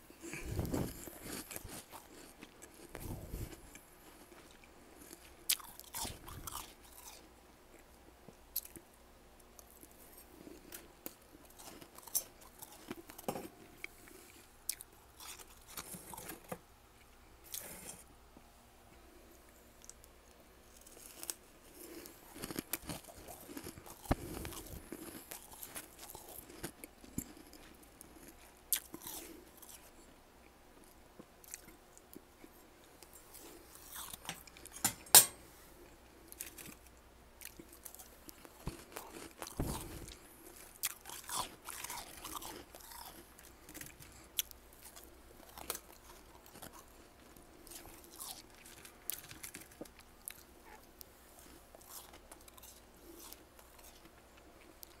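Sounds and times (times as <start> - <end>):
frost being chewed: 0.2 - 18.1, 19.3 - 30.1, 30.8 - 34.9, 35.8 - 55.0.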